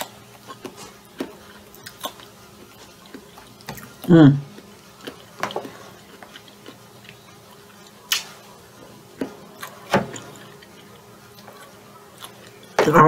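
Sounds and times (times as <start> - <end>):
wet chewing with mouth clicks: 0.0 - 13.0.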